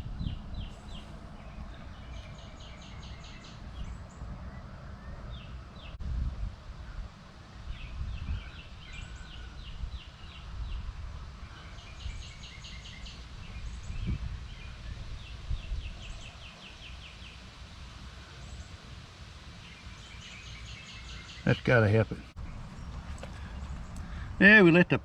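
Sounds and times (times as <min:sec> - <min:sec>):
wind rumble on microphone: 0:00.0 - 0:20.8, 0:22.3 - 0:24.4
songbird chirping: 0:00.2 - 0:06.0, 0:07.7 - 0:25.0.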